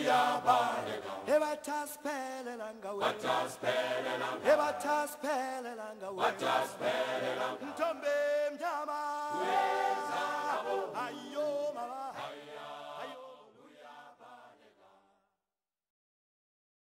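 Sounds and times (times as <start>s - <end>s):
chant-like singing voices: 0.0s - 15.2s.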